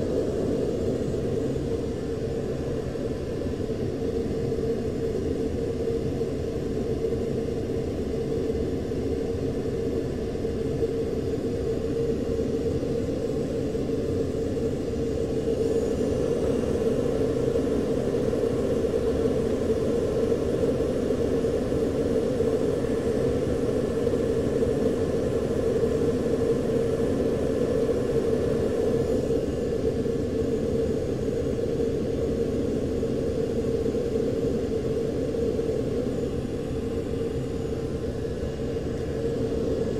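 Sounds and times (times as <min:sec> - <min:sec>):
aircraft engine and airflow drone: 0:00.0 - 0:39.9.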